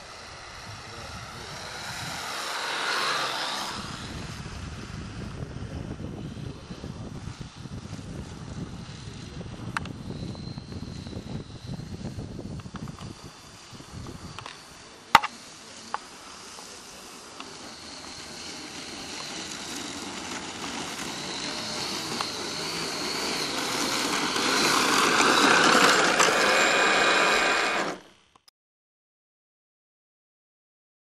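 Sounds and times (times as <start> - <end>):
model plane motor and propeller: 0.0 - 28.5.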